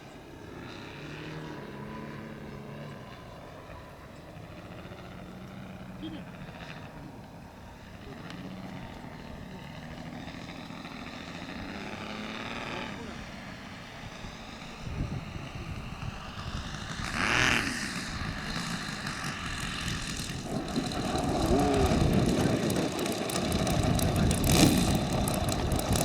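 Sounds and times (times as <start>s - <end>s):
model plane radial engine running: 0.0s - 26.0s.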